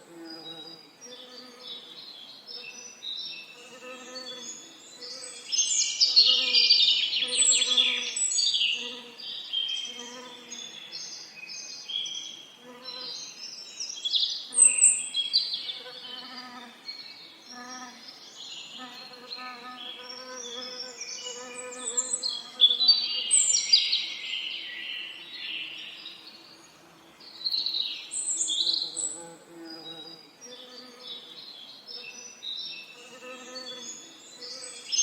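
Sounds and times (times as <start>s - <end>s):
songbirds chirping and trilling: 0.1s - 35.0s.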